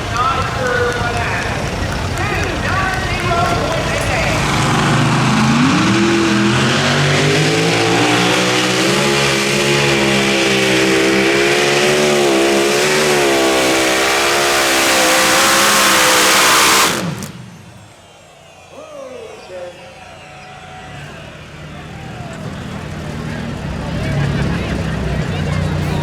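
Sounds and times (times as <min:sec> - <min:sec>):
engine running at high revs: 0:00.0 - 0:18.2, 0:20.9 - 0:26.0.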